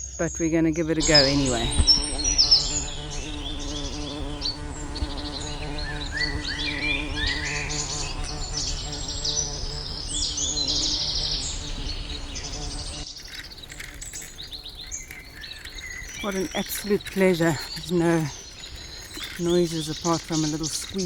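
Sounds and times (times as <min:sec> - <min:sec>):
birds singing: 0:00.0 - 0:21.0
low buzzing hum: 0:01.0 - 0:21.0.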